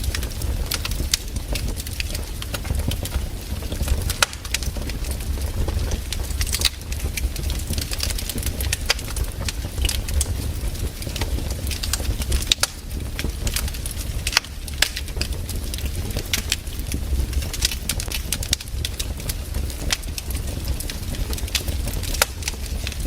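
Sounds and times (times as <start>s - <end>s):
campfire crackling and popping: 0.0s - 23.0s
low rumble: 0.0s - 23.0s.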